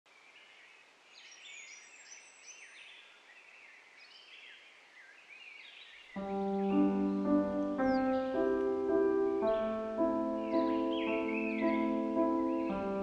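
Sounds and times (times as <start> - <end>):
small birds chirping: 0.1 - 13.0
soft steady hiss: 0.1 - 13.0.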